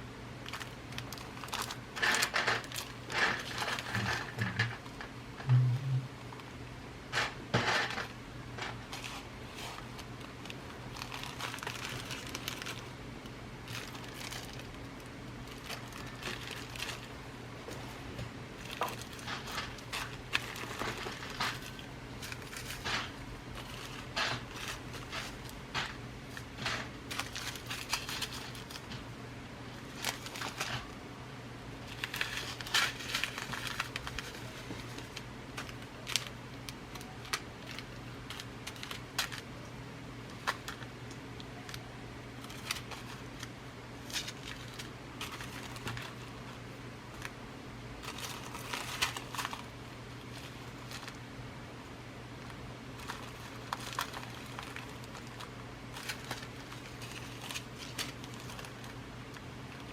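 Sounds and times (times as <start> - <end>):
steady low hum: 0.0 - 59.9
packaging rustling: 0.4 - 5.0, 7.8 - 29.0, 29.7 - 31.0, 31.8 - 39.6, 40.3 - 47.4, 48.0 - 51.2, 52.4 - 59.9.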